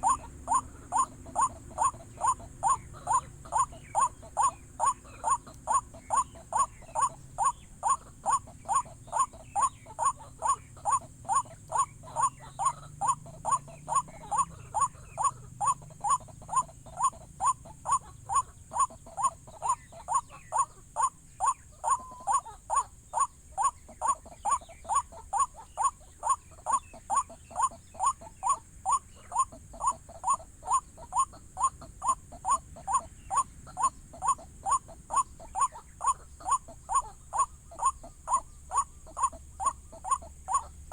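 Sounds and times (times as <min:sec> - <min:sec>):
waterhen calling: 0:00.0 - 0:40.9.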